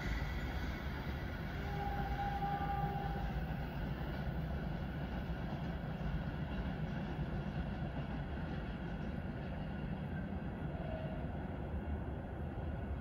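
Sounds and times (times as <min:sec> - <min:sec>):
train coaches rolling on rails: 0:00.0 - 0:13.0.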